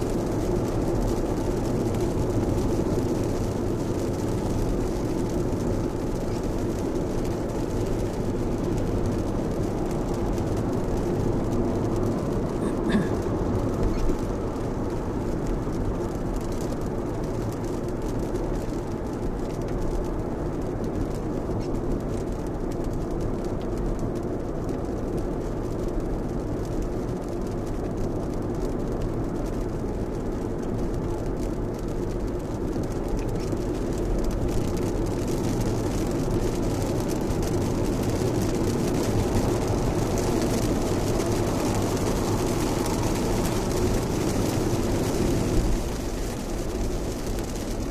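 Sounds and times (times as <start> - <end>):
rain on car: 0.0 - 47.9
tyres on wet road: 0.0 - 47.9.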